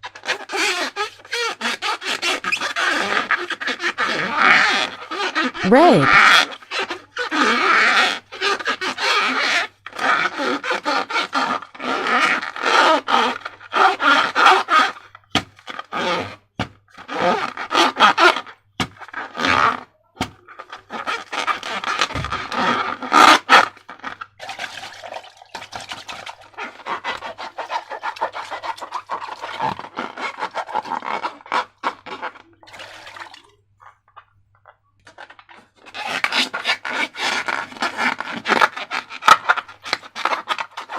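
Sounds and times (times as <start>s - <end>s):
slime and balloons rubbing: 0.1s - 33.5s, 35.1s - 40.9s.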